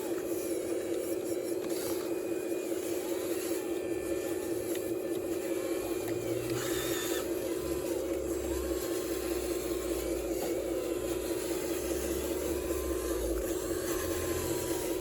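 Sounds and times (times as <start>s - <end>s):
model excavator motor whining: 0.0s - 15.0s.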